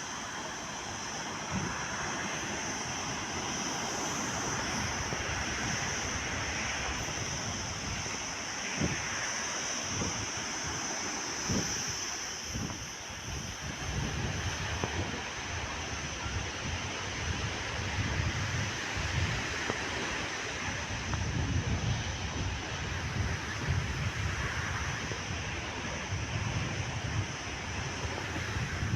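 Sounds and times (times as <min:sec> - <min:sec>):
sea surf rushing: 0:00.0 - 0:28.9
wind buffeting microphone: 0:00.0 - 0:28.9.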